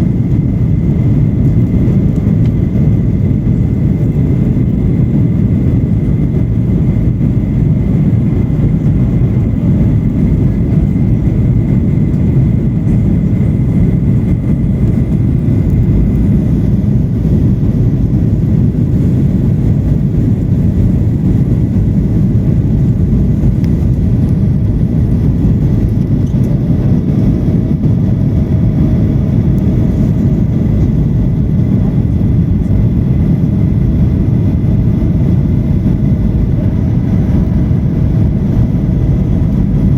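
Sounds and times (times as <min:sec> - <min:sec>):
aircraft engine and airflow drone: 0:00.0 - 0:39.9
faint steady whine: 0:00.0 - 0:39.9.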